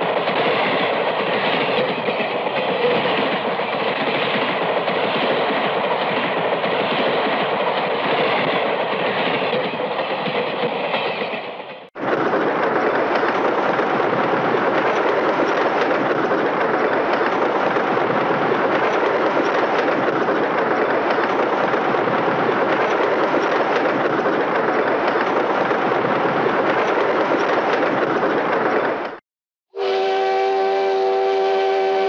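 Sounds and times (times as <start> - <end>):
train wheels on rails: 0.0 - 29.2.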